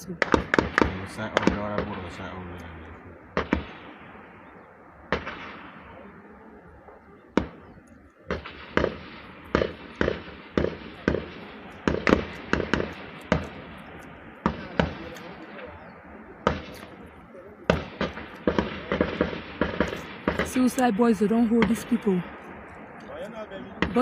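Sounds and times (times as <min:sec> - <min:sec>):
gunshots with long echo: 0:00.0 - 0:24.0.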